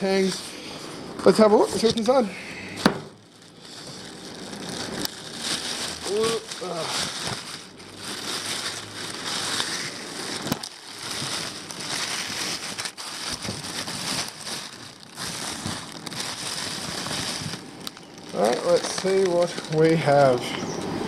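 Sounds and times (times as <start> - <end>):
packing material crinkling: 0.0 - 20.7.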